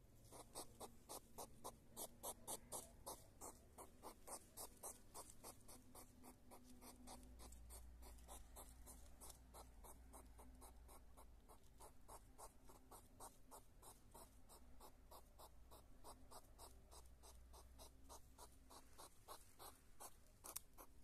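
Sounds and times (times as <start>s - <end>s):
hedgehogs huffing: 0.3s - 20.1s.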